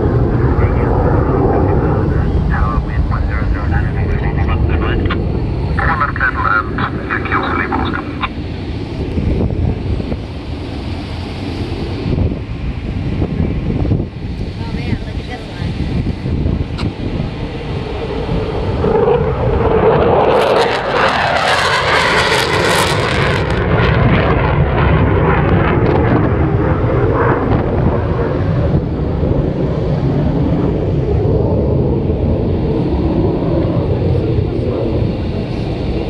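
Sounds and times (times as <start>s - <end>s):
fighter jet taking off: 0.0s - 36.0s.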